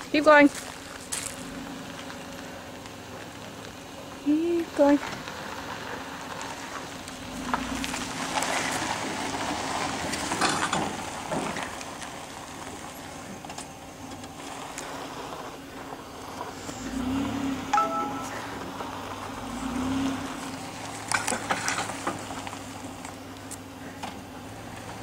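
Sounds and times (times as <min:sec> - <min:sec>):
truck engine running slowly: 0:00.0 - 0:25.0.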